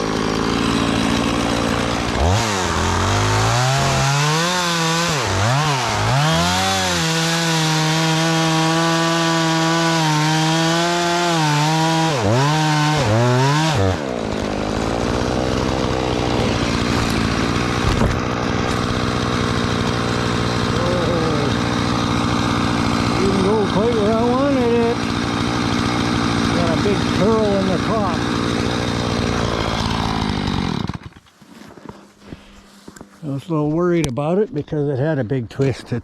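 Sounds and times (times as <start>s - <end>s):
chainsaw revving and cutting: 0.0s - 33.1s.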